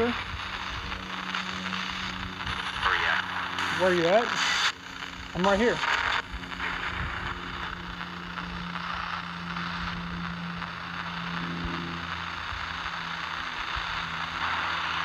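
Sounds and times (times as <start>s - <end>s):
choppy radio static: 0.0s - 15.0s.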